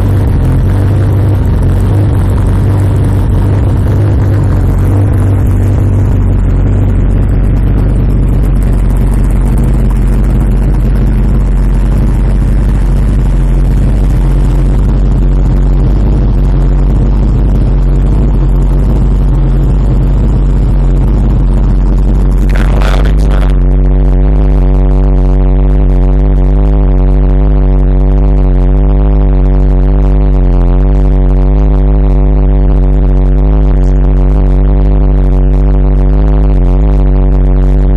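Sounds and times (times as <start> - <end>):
engine running loud: 0.0 - 37.9.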